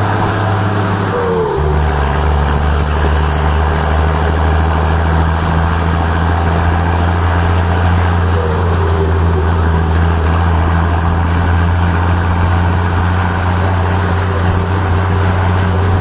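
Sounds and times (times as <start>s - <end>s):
engine idling with deep drone: 0.0s - 16.0s.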